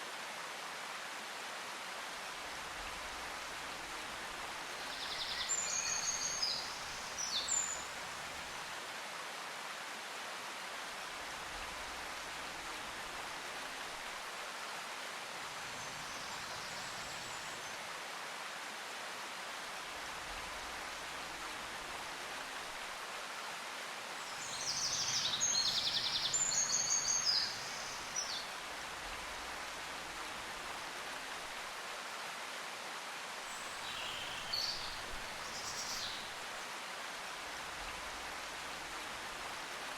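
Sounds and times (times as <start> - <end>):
steady hiss like running water: 0.0 - 39.9.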